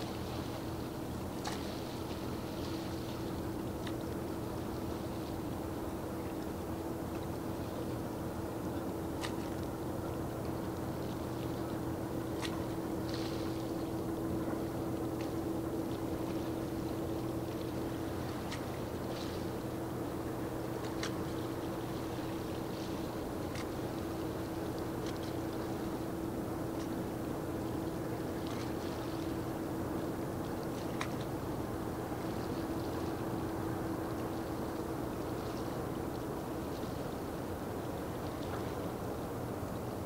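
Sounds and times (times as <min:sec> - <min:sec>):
ship engine hum: 0:00.0 - 0:40.0.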